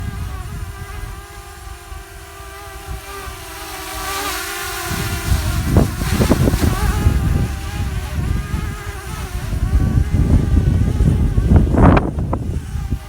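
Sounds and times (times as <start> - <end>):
drone propellers humming: 0.0 - 13.0
wind rumble on microphone: 0.0 - 13.0.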